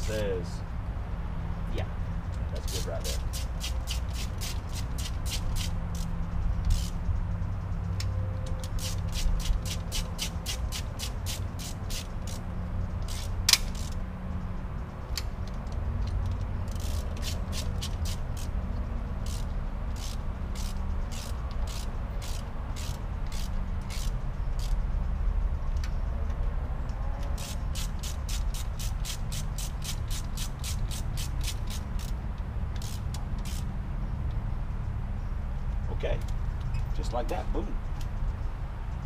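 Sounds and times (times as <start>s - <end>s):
ratchet wrench clicking: 2.2s - 34.4s.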